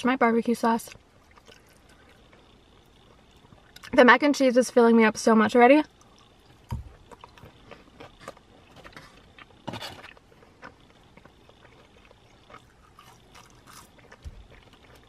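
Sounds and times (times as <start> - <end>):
chewing food: 0.8 - 4.0, 5.8 - 15.0.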